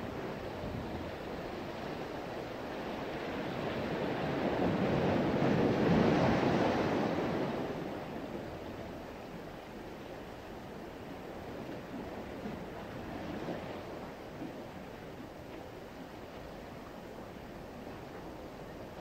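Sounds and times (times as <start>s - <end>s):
sea waves washing ashore: 0.0s - 19.0s.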